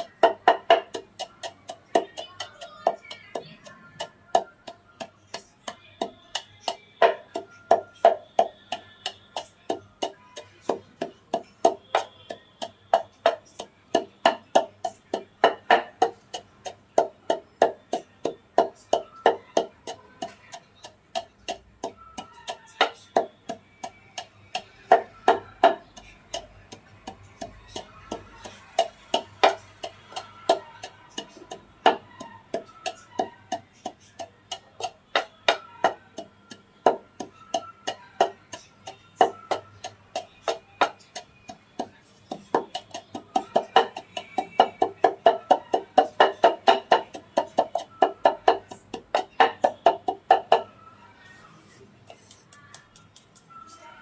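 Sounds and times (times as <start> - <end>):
pestle pounding in mortar: 0.0 - 50.7.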